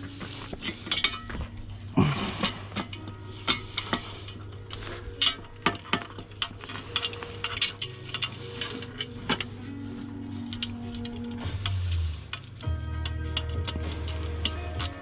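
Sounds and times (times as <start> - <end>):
tool clinking on metal rack: 0.1 - 15.0.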